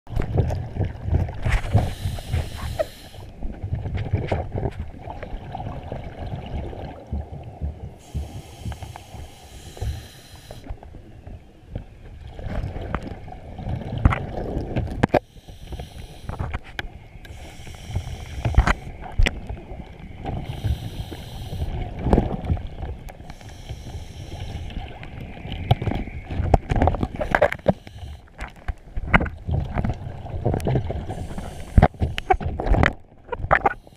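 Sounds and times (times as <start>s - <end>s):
low underwater rumble: 0.1s - 33.8s
regulator bubbles hissing: 0.3s - 3.4s, 5.0s - 10.8s, 13.8s - 28.5s, 29.6s - 33.9s.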